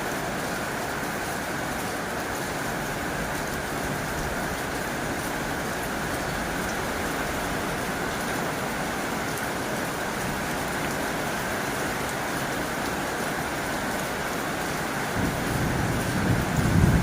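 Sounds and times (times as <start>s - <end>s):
heavy rain on a tin roof: 0.0s - 17.0s.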